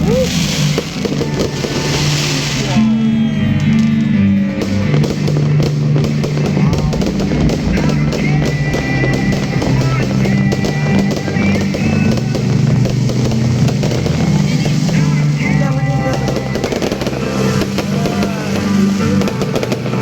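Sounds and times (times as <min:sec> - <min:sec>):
fireworks popping and crackling: 0:00.0 - 0:20.0
music with bass and drums: 0:00.0 - 0:20.0.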